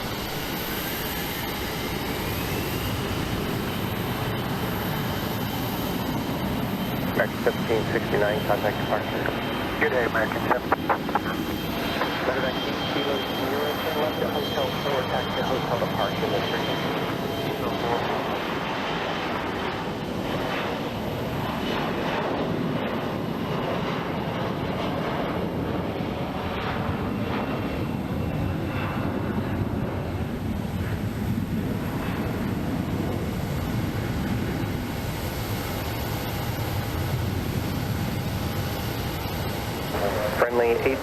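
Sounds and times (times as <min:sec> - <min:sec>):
jet engines at high power: 0:00.0 - 0:41.0.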